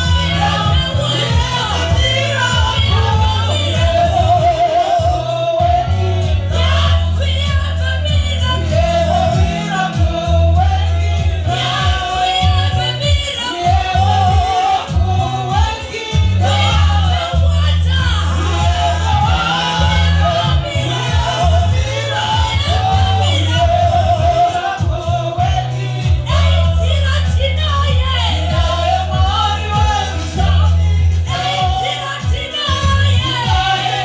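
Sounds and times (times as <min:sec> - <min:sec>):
band with heavy bass: 0:00.0 - 0:34.0
voices singing: 0:00.0 - 0:34.0.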